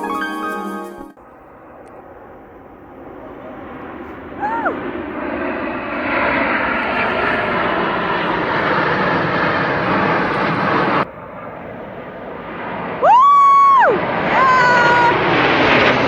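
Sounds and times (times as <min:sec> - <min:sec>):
jets passing overhead: 0:00.0 - 0:16.0.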